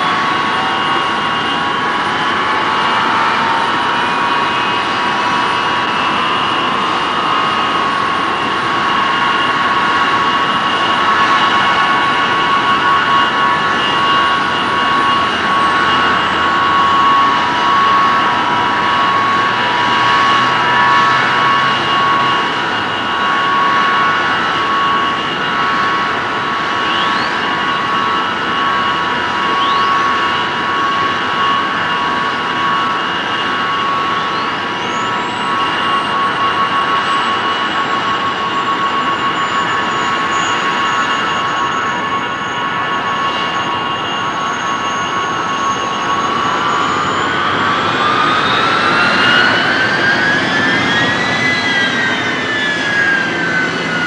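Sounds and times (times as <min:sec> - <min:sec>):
high whistles sweeping upward: 0:00.0 - 0:54.0
jet engines running: 0:00.0 - 0:54.0.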